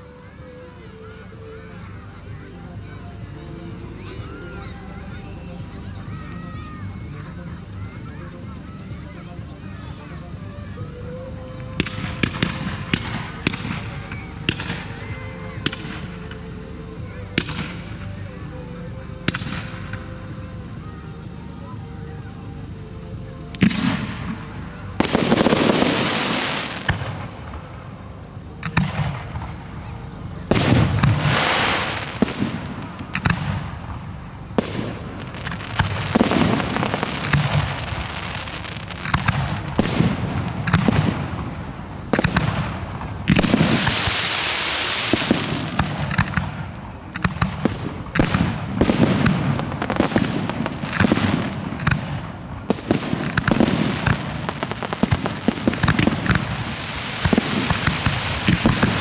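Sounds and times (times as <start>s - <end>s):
fireworks bursting and banging: 0.0s - 59.0s
fireworks hissing crackle: 0.0s - 59.0s.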